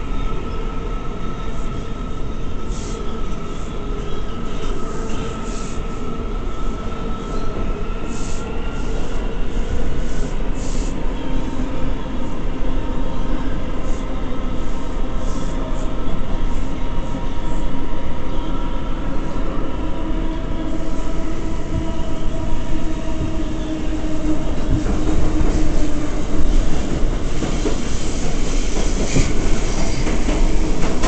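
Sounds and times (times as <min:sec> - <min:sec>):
subway wheels rumbling on track: 0:00.0 - 0:31.0.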